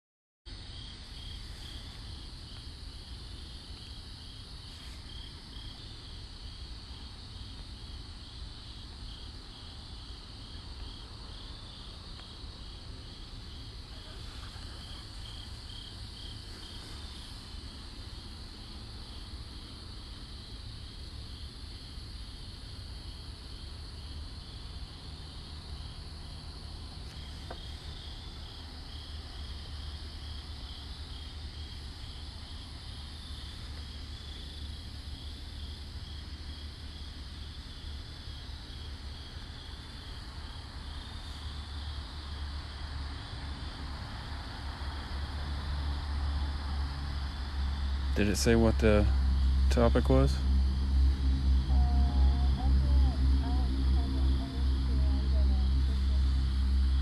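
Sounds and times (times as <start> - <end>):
high insect trill: 0.5 - 57.0
pulsed insect chirp: 0.5 - 57.0
steady low rumble: 0.5 - 57.0.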